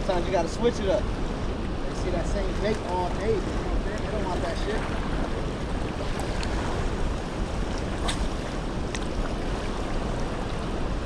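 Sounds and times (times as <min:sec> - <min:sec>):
fast-flowing river rushing: 0:00.0 - 0:11.0
wind buffeting microphone: 0:00.0 - 0:11.0.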